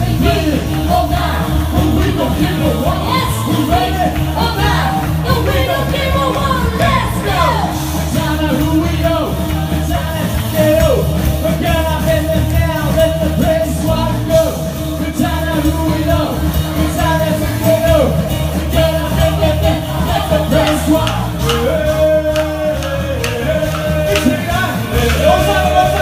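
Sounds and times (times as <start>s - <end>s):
live band music: 0.0s - 26.0s
person singing: 0.0s - 26.0s.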